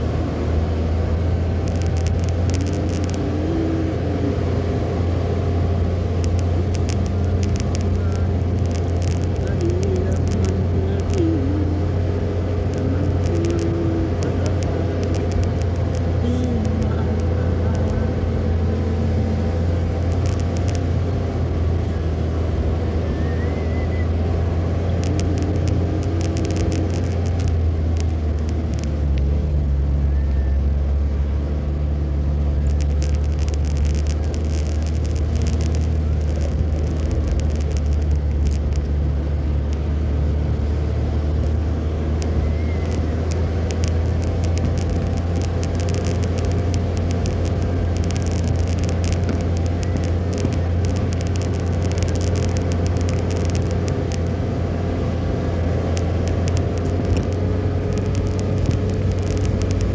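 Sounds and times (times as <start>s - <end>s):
car engine and road rumble: 0.0s - 59.9s
light ticks: 0.2s - 59.9s.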